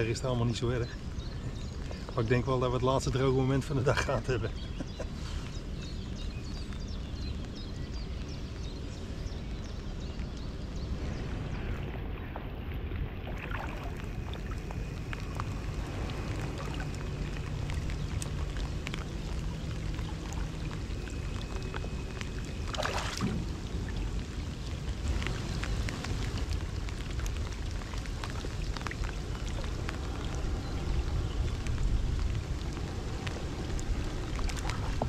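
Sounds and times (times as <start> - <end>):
low rumble of water: 0.0 - 35.0
rain drops ticking: 0.0 - 35.0.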